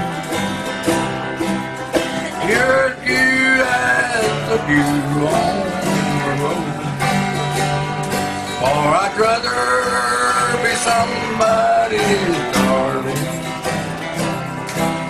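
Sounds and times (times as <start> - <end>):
bluegrass string band playing: 0.0 - 15.0
guitars strumming: 0.0 - 15.0
sliding lead melody: 0.0 - 15.0.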